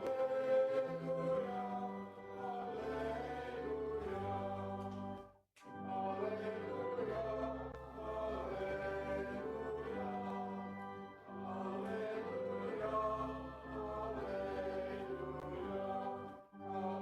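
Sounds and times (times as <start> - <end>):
sustained instrumental chords: 0.0 - 17.0
voices singing a hymn: 0.0 - 17.0.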